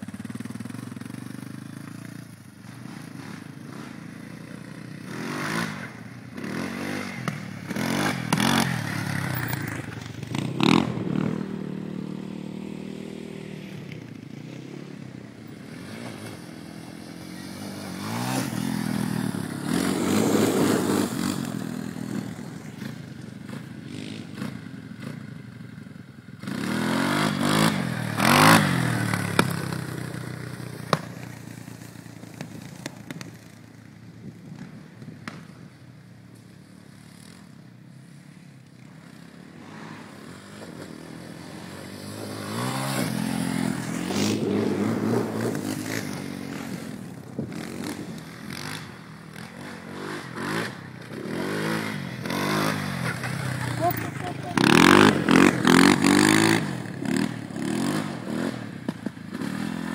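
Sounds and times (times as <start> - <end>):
quad bike engines revving: 0.0 - 59.9.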